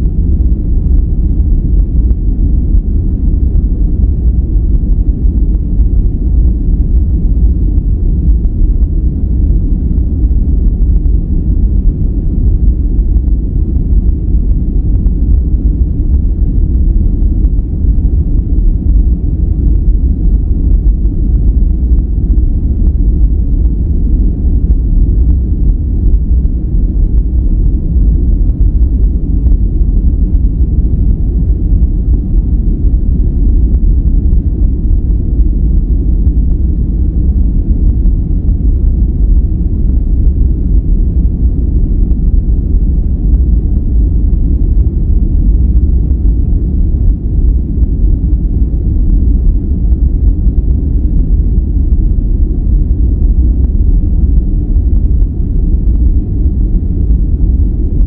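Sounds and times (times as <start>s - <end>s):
deep rumbling brown noise: 0.0s - 58.0s.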